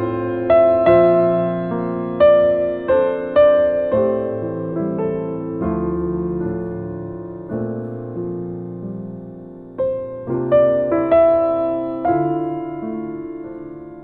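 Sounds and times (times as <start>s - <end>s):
slow solo jazz piano: 0.0s - 14.0s.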